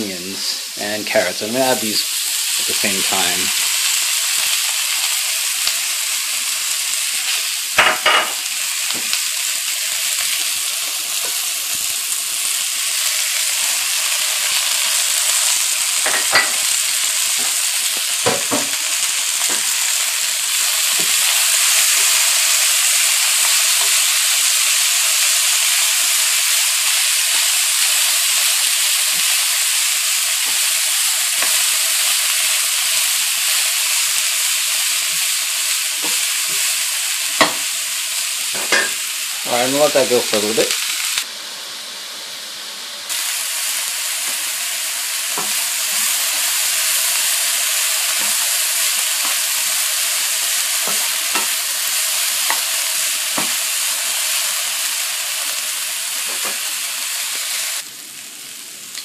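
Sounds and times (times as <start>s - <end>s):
vegetables sizzling in a frying pan: 0.0s - 59.0s.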